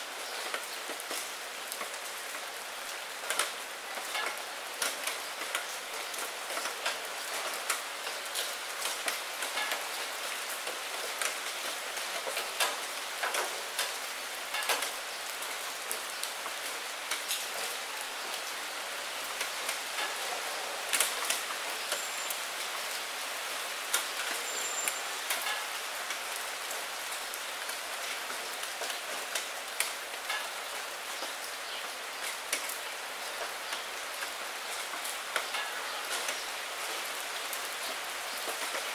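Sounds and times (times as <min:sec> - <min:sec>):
rain falling into a puddle: 0:00.0 - 0:38.9.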